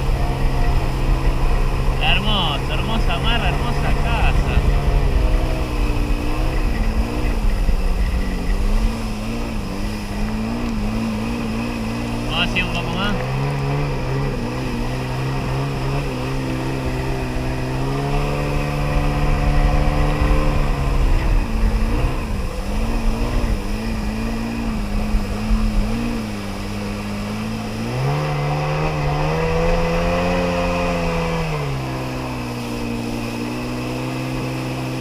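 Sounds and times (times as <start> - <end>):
watercraft engine puttering: 0.0 - 35.0.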